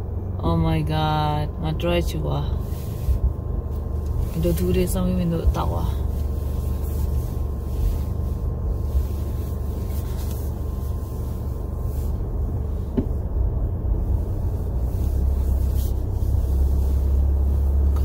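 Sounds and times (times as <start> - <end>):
car engine rumble inside cabin: 0.0 - 18.0
faint steady hum: 0.0 - 18.0.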